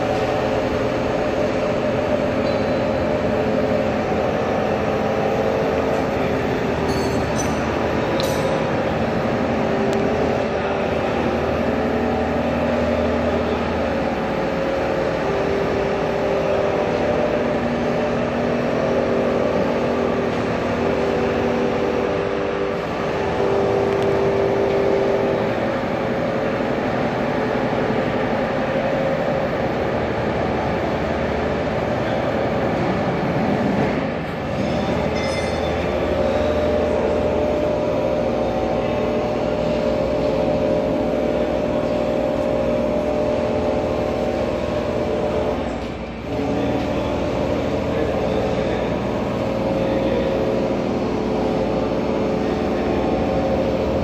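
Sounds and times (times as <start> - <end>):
pipe bending machine drone: 0.0 - 54.0.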